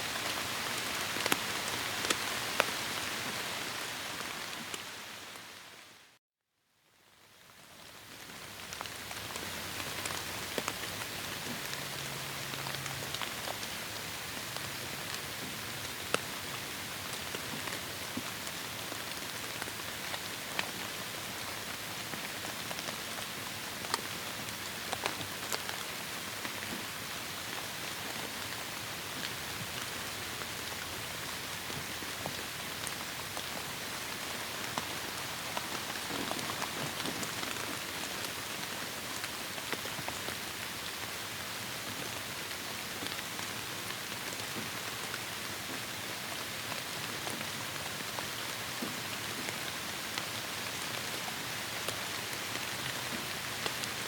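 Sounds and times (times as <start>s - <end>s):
raindrops pattering: 0.1s - 5.6s, 7.5s - 54.0s
heavy rain hiss: 8.7s - 54.0s.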